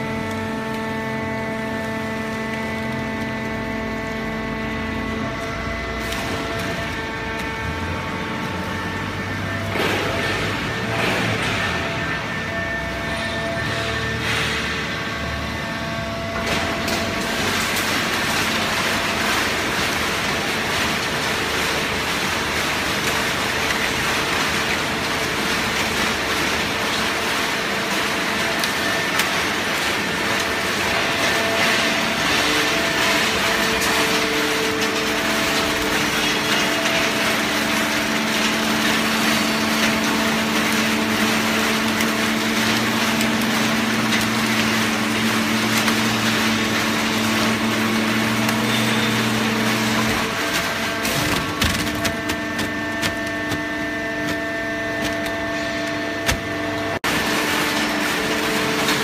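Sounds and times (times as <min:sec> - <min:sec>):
hydraulic baler running: 0:00.0 - 0:59.0.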